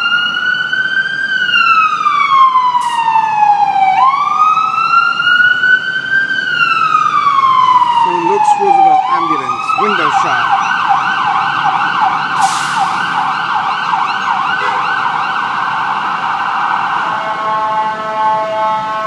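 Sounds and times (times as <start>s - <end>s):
ambulance siren wailing and yelping: 0.0s - 19.0s
horn-like siren blare: 0.0s - 19.0s.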